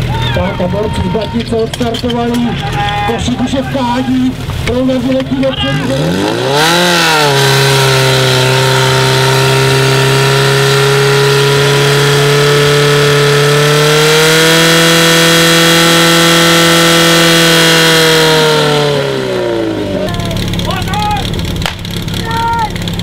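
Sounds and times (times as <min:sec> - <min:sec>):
pump engine running at high revs: 0:01.7 - 0:23.0.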